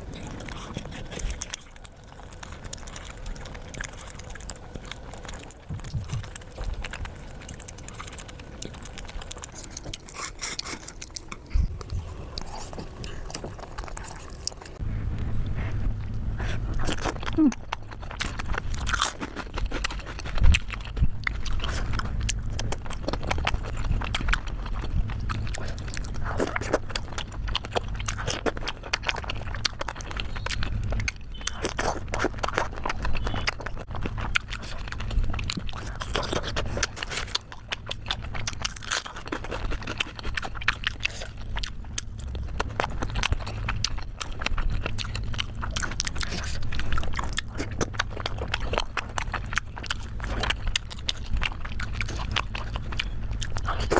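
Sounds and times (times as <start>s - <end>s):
chewing with wet mouth smacks: 0.0s - 53.9s
low steady hum: 0.0s - 53.9s.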